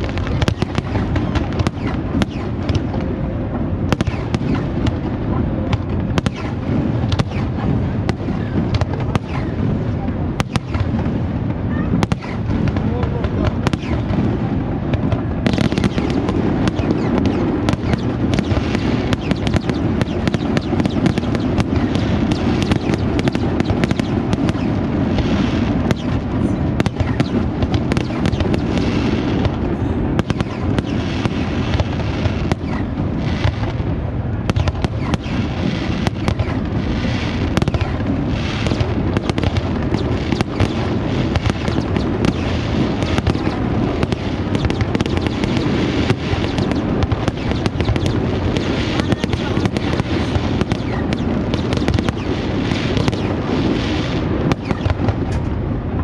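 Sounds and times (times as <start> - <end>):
fireworks bursts and crackle: 0.0 - 56.0.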